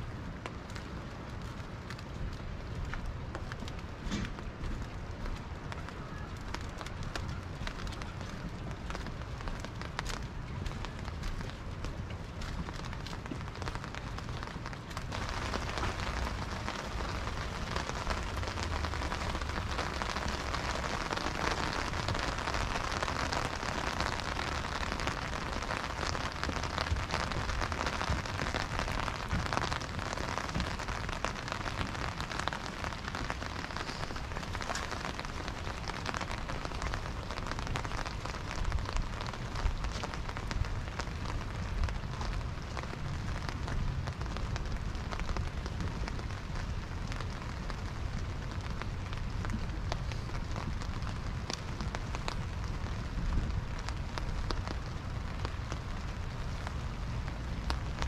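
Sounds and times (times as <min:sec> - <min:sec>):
rain falling on a dock and water: 0:00.0 - 0:58.0.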